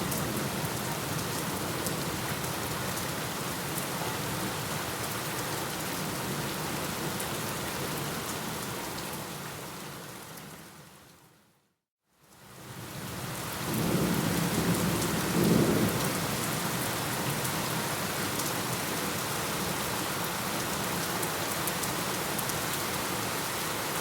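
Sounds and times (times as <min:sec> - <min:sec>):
heavy rain: 0:00.0 - 0:10.4, 0:12.4 - 0:24.0.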